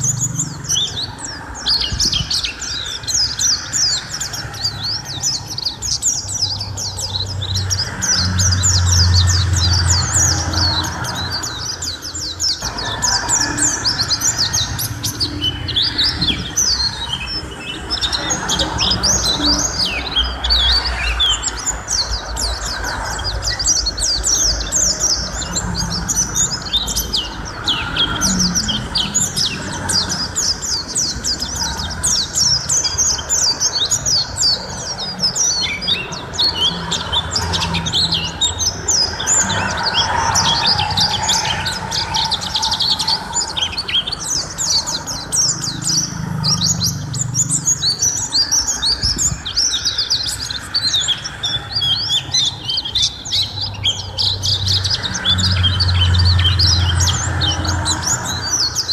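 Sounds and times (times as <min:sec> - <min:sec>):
bird twittering: 0:00.0 - 0:58.9.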